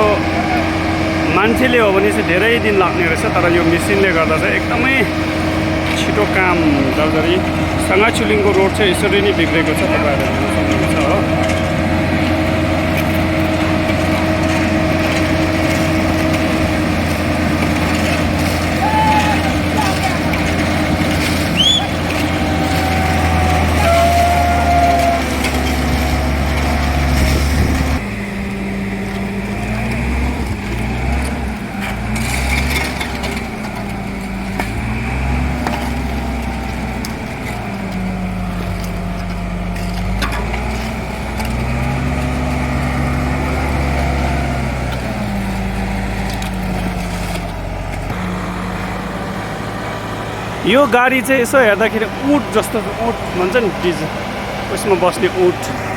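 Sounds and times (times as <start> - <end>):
diesel engine revving: 0.0 - 55.9.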